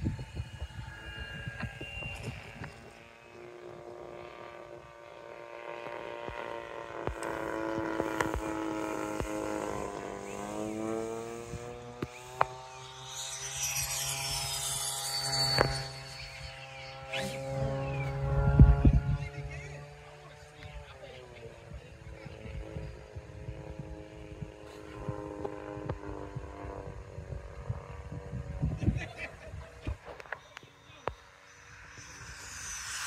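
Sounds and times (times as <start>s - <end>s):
electric ducted fans whining: 0.0s - 33.0s.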